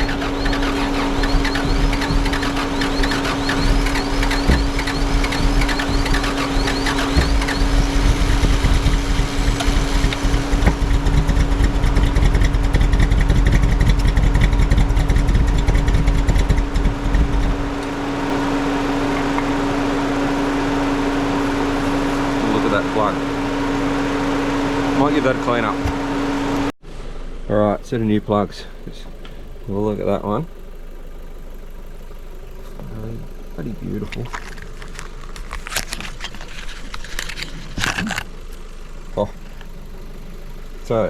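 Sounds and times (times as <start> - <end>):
truck engine rumbling: 0.0 - 26.8, 27.5 - 41.0.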